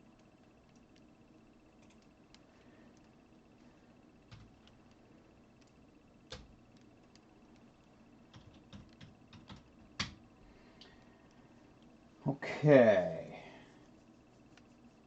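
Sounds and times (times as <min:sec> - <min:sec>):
faint computer keys clicking: 0:00.0 - 0:12.0, 0:13.7 - 0:15.0.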